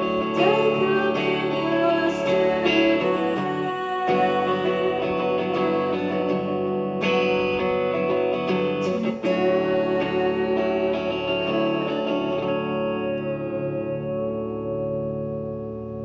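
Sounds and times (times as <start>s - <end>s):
live band with strummed guitars: 0.0s - 16.0s.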